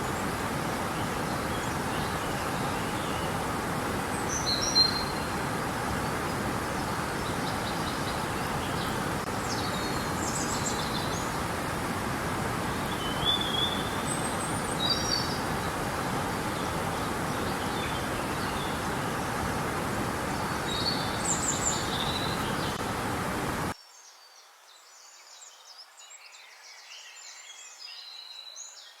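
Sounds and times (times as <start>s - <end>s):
river water rushing: 0.0s - 23.8s
small birds chirping: 0.0s - 24.2s.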